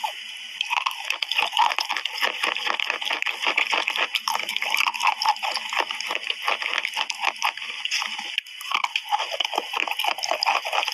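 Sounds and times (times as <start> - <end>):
wet chewing: 0.0 - 10.9.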